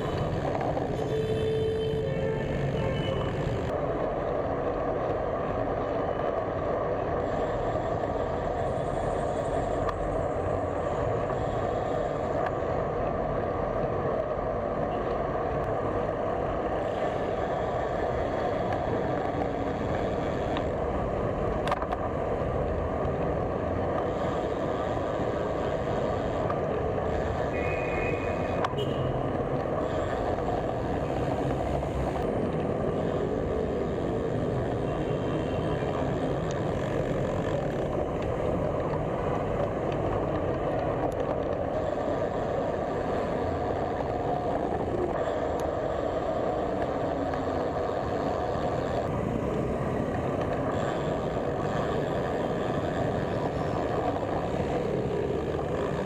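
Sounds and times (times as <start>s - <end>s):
road traffic rushing past: 0.0s - 56.0s.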